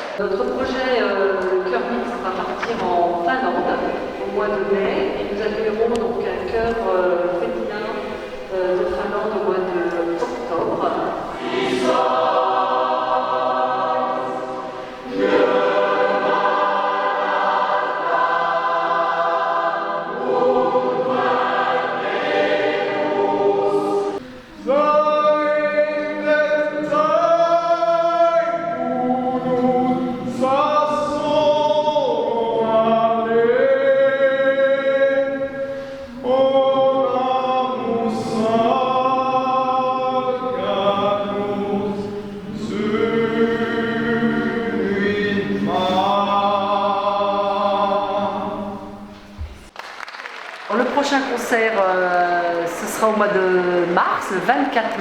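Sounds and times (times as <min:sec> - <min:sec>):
choir singing in harmony: 0:00.0 - 0:49.5.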